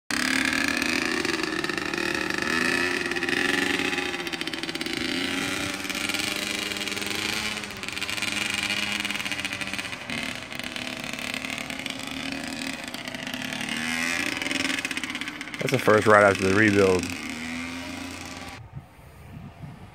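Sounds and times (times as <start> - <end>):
motorcycle engine revving: 0.1 - 18.7.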